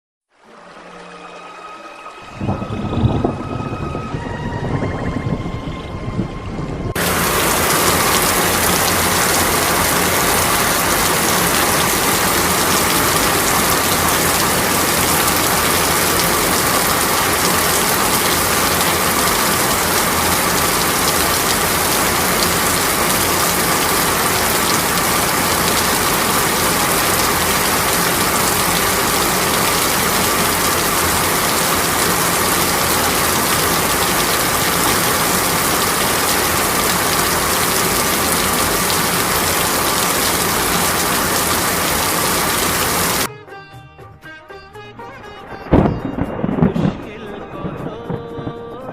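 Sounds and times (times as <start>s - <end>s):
heavy rain hissing: 7.0s - 43.3s, 45.5s - 48.9s.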